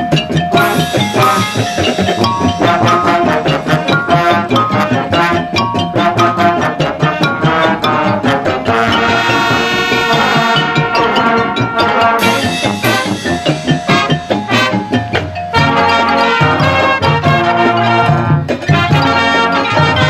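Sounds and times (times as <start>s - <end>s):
drums: 0.0s - 20.0s
mallet percussion: 0.0s - 20.0s
brass playing: 0.5s - 20.0s.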